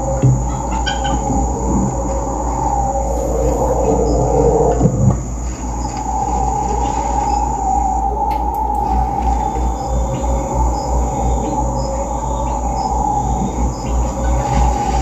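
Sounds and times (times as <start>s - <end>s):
insect drones: 0.0s - 15.0s
thin high insect whine: 0.0s - 15.0s.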